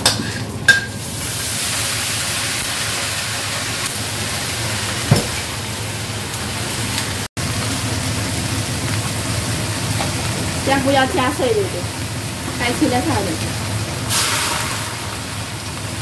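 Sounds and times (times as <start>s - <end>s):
cabbage sizzling in hot oil: 0.2s - 16.0s.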